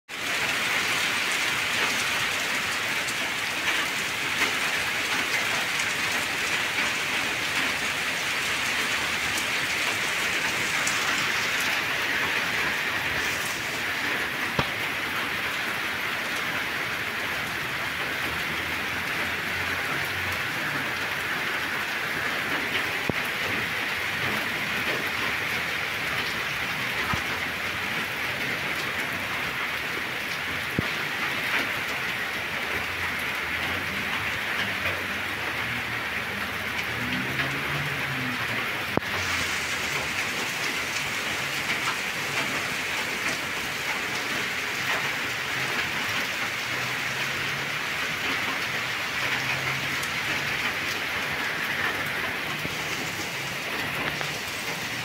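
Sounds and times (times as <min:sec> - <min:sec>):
steady rain hiss: 0:00.1 - 0:55.0.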